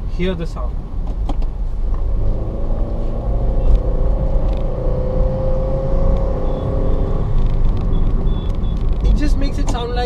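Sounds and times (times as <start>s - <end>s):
car engine drone: 0.6s - 10.0s.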